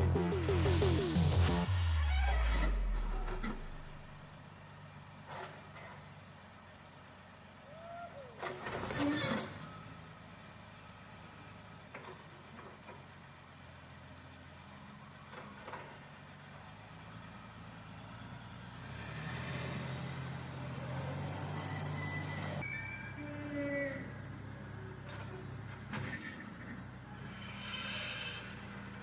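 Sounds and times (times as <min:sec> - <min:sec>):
heavy truck engine running: 0:00.0 - 0:29.0.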